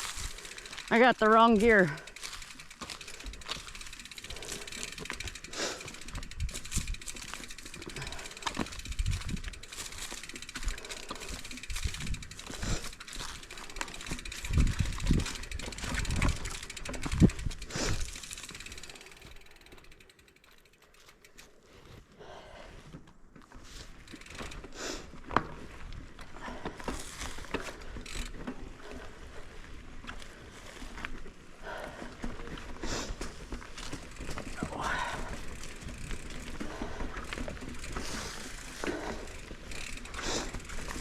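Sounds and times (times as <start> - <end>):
bike chain and frame rattling: 0.0 - 21.7, 23.5 - 41.0.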